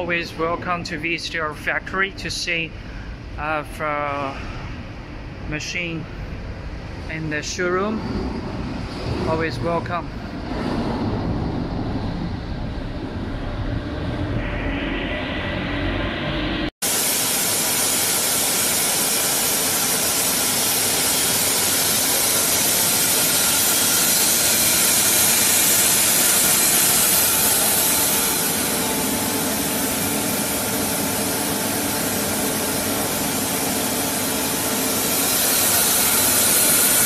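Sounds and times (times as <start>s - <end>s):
machine whirring and hissing: 2.6s - 37.0s.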